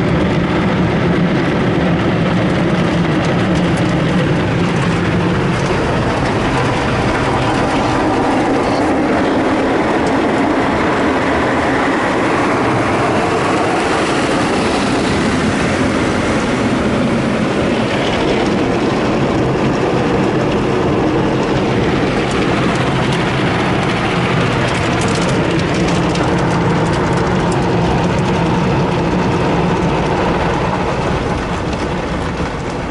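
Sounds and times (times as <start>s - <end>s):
automatic car wash running: 0.0s - 32.9s
low hum: 0.0s - 32.9s.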